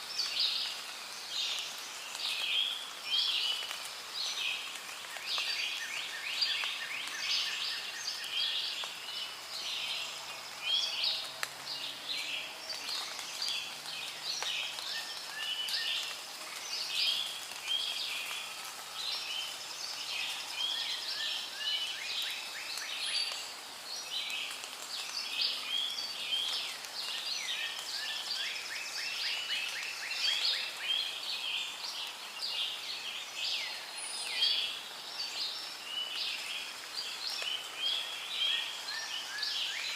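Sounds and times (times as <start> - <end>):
birds calling and chirping: 0.2 - 39.9.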